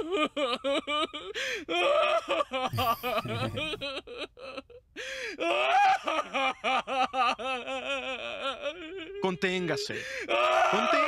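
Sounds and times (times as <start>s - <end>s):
cartoon man sobbing and wailing: 0.0s - 11.0s.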